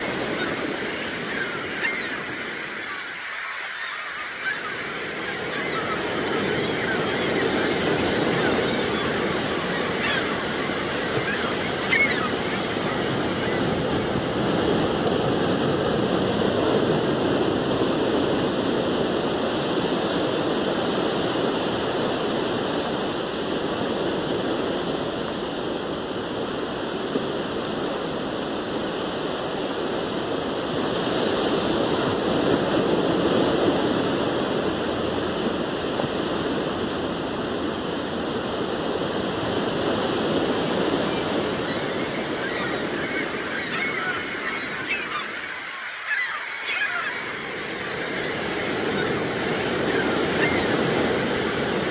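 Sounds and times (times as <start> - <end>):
sea waves breaking on beach: 0.0 - 51.9.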